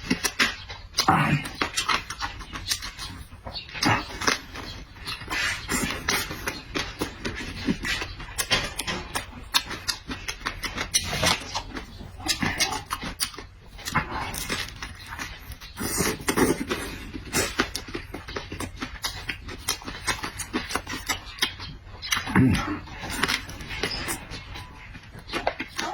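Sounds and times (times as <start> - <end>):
person chewing noisily: 0.0 - 25.9.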